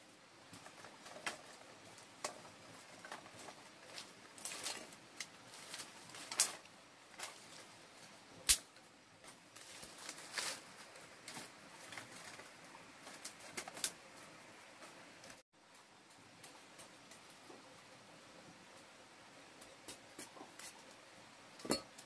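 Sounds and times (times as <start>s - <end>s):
twigs clicking and rustling: 0.4s - 17.5s, 19.6s - 22.0s.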